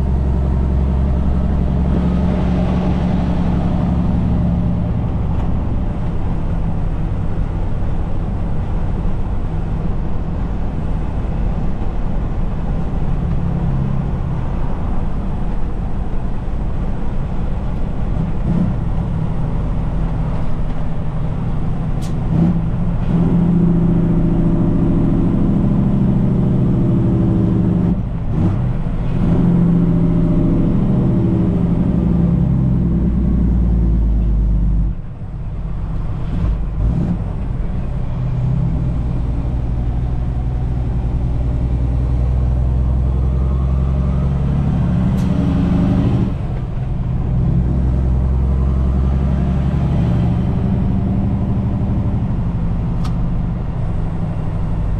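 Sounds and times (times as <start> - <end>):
truck engine droning: 0.0 - 54.9.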